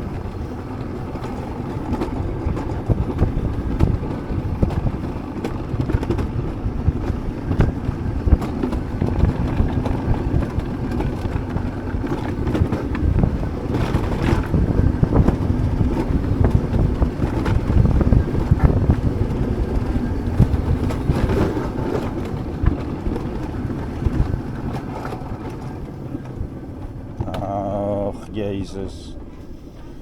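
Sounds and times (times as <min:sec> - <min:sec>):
coaster sled rumbling on metal rails: 0:00.0 - 0:30.0.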